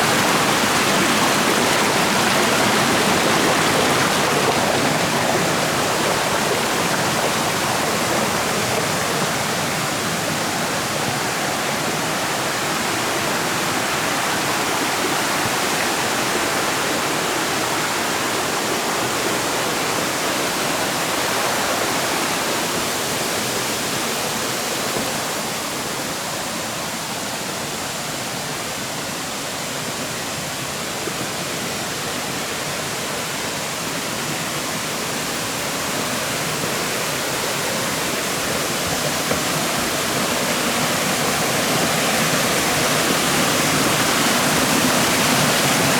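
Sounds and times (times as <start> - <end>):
river water rushing over stones: 0.0 - 45.9.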